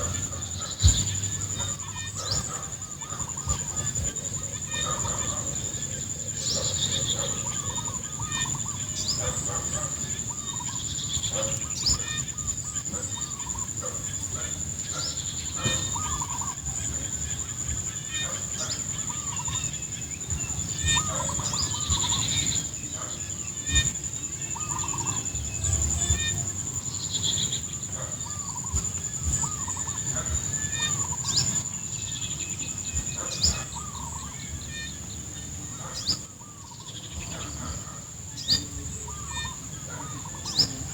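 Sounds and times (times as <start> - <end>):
fowl calling: 0.0 - 31.7, 33.1 - 40.9
high-pitched insect drone: 0.0 - 35.4.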